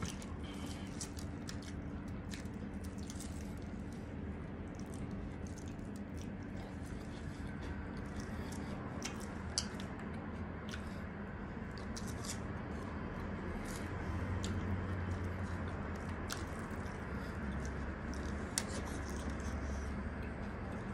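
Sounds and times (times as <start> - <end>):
crispy food crunching: 0.0 - 20.9
steady low hum: 0.0 - 20.9.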